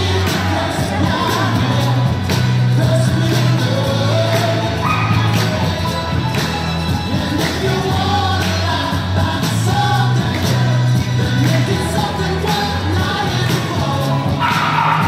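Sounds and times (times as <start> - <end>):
song with singing and beat: 0.0 - 15.0.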